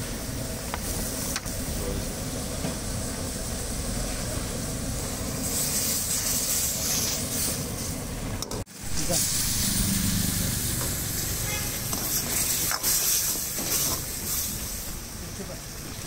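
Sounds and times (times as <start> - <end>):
gas burner rumble: 0.0 - 16.0
sauce boiling in a wok: 0.0 - 16.0.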